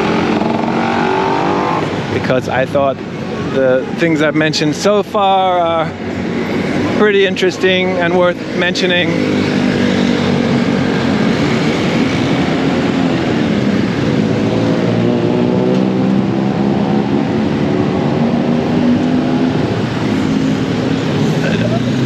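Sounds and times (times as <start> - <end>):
road noise: 0.0 - 22.0
vehicle engines running: 0.0 - 22.0.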